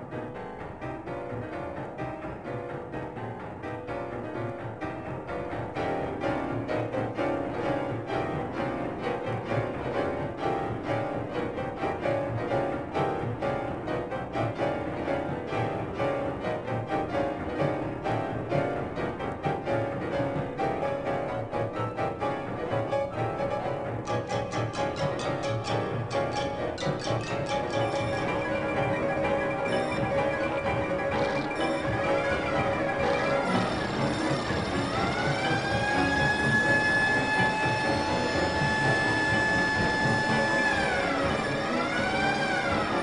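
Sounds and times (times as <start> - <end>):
piano music with rapid notes: 0.0 - 43.0.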